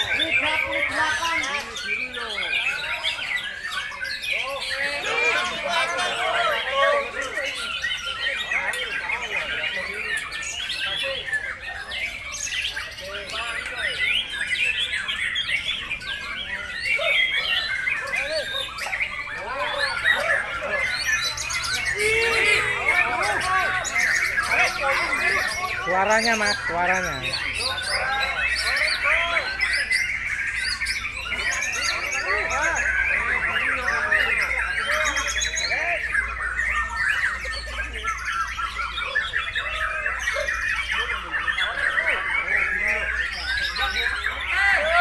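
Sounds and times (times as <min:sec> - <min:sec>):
bird singing whistles and trills: 0:07.1 - 0:45.0.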